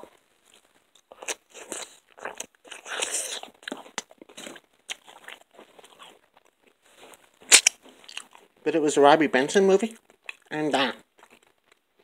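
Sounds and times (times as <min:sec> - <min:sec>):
chewing crunchy pizza: 0:00.0 - 0:08.6, 0:09.8 - 0:12.0.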